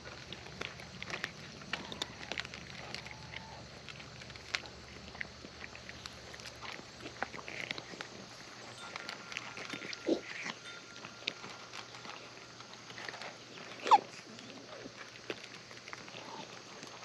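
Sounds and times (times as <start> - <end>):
cats chewing and licking food: 0.0 - 17.0.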